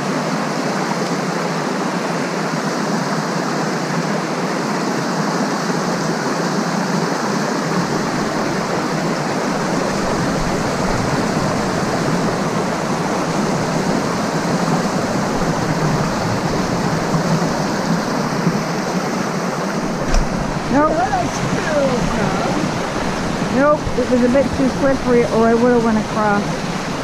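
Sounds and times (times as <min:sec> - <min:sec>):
creek rushing over rocks: 0:00.0 - 0:27.0.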